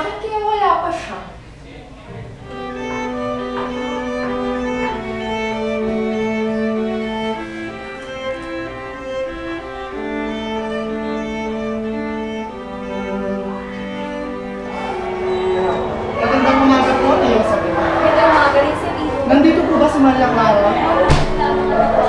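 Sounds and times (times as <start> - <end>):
bowed strings holding chords: 2.4 - 22.0.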